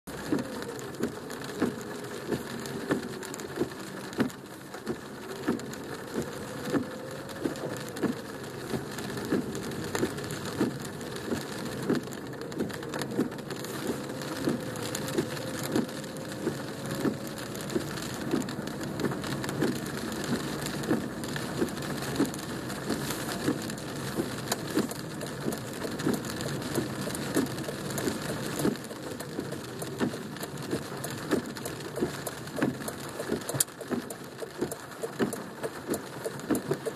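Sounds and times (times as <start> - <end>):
rain hissing on car: 0.0 - 36.9
heavy raindrops tapping: 0.1 - 36.9.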